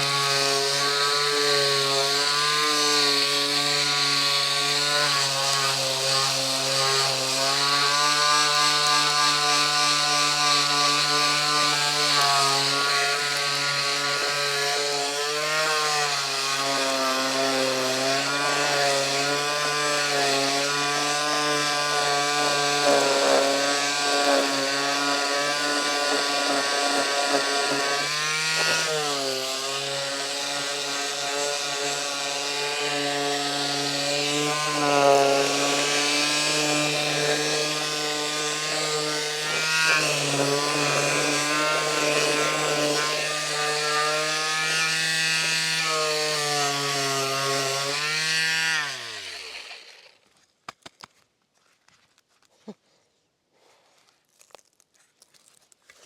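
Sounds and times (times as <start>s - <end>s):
power tool running against surface: 0.0s - 50.2s
power tool spinning down: 0.0s - 50.2s.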